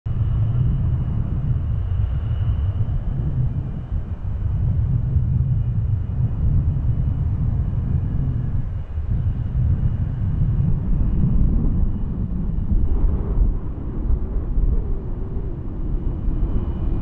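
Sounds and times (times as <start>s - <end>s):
faint high engine whine: 0.1s - 17.0s
jet engines rumbling: 0.1s - 17.0s.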